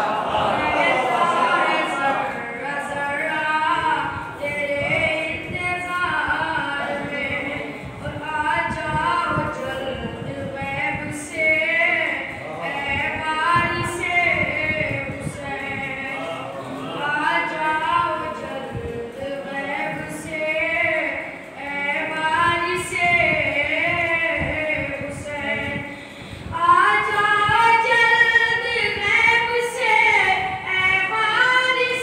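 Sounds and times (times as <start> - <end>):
boy chanting into a microphone: 0.0 - 32.0.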